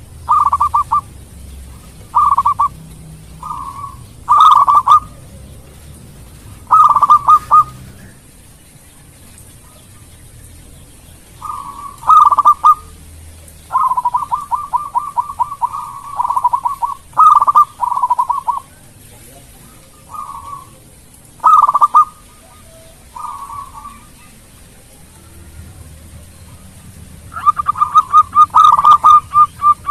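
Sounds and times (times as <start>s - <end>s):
dove cooing: 0.0s - 8.3s, 11.4s - 13.0s, 13.6s - 29.9s.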